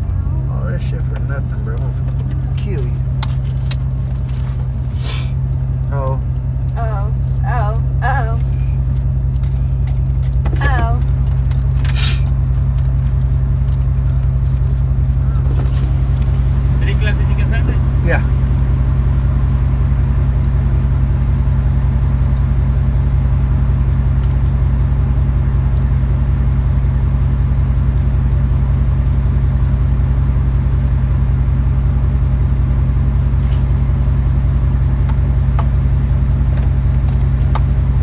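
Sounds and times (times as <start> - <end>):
truck engine rumbling: 0.0 - 38.0.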